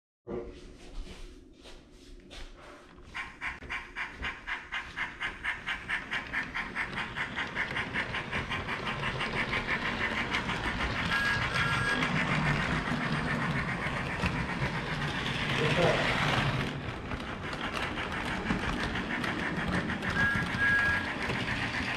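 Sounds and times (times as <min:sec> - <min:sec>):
model train wheels clicking: 0:03.2 - 0:21.9.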